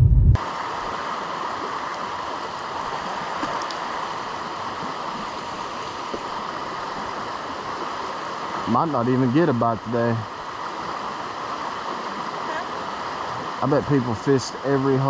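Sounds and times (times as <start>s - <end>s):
river water rushing over rocks: 0.4s - 15.0s.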